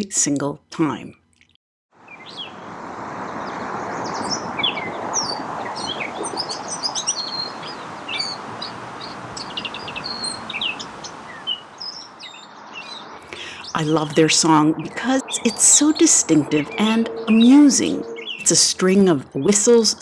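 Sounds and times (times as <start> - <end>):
bird singing squeaky notes: 3.3 - 20.0.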